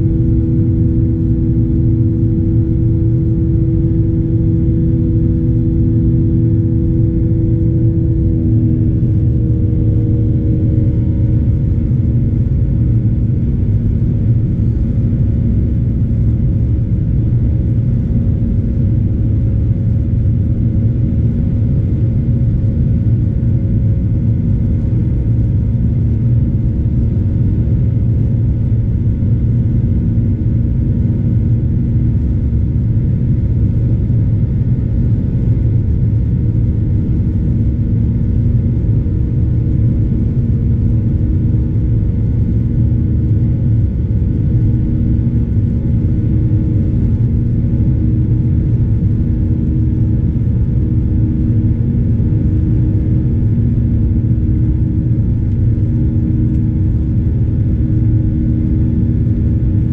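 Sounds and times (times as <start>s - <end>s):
airliner cabin engine rumble: 0.0s - 59.9s
faint steady hum: 0.0s - 59.9s.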